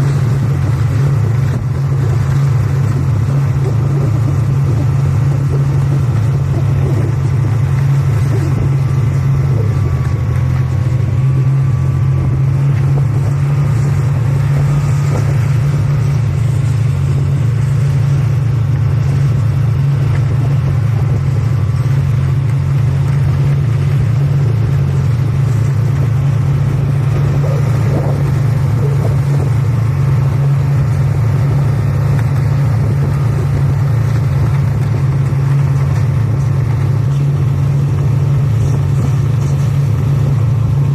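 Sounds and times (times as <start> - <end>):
snowmobile engine droning: 0.0 - 40.9.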